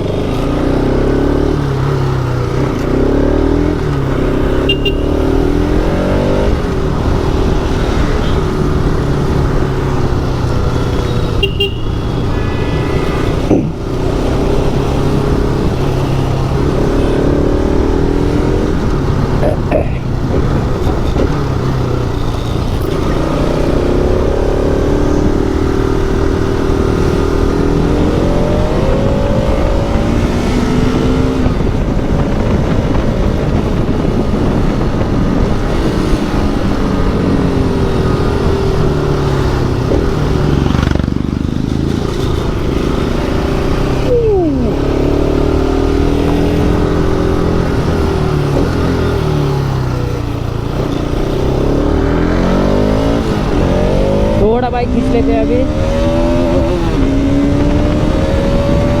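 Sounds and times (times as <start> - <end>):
motorcycle engine revving: 0.0 - 59.0
road noise: 0.0 - 59.0.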